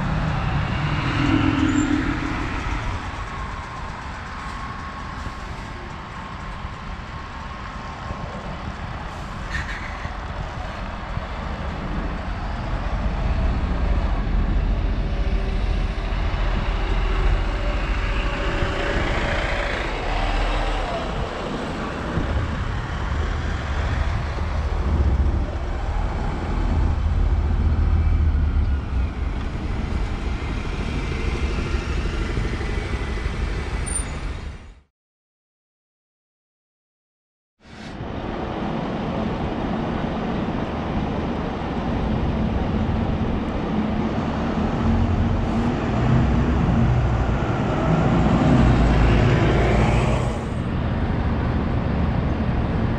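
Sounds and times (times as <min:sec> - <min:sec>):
buses and cars passing: 0:00.0 - 0:34.9, 0:37.6 - 0:52.9.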